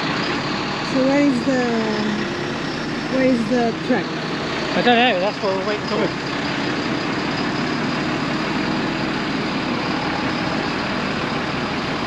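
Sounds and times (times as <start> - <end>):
diesel crane engine idling: 0.0 - 12.0.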